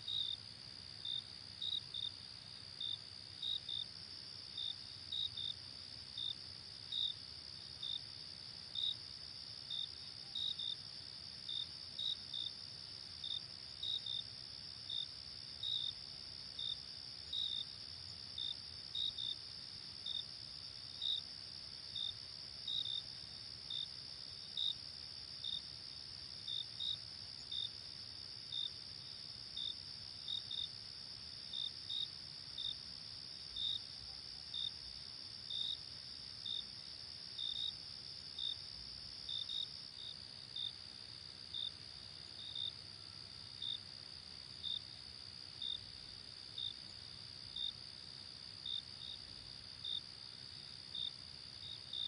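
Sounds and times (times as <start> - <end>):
insect chirps: 0.0 - 52.0.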